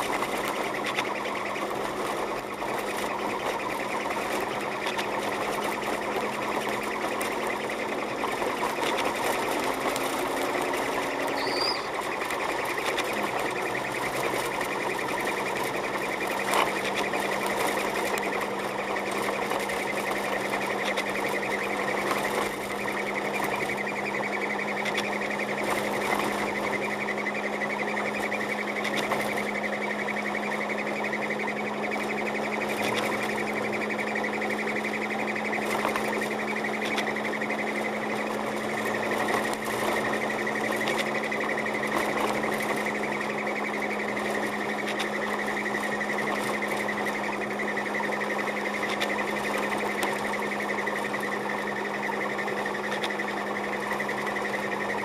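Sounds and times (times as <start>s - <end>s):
car engine drone: 0.0s - 55.0s
tyre and road noise: 0.0s - 55.0s.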